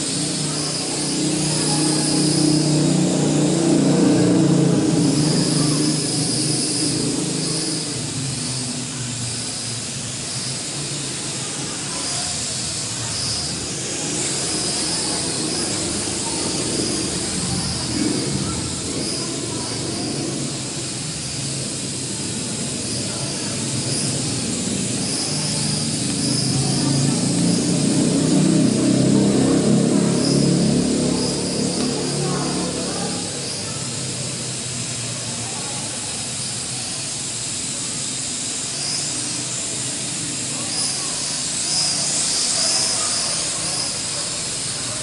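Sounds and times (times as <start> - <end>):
quadcopter motors buzzing: 0.0 - 45.0.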